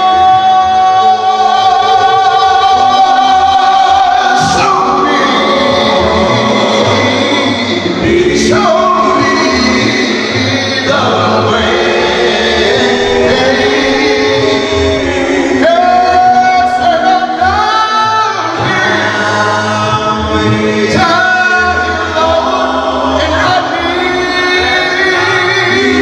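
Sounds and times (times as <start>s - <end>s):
male group singing in harmony: 0.0s - 26.0s.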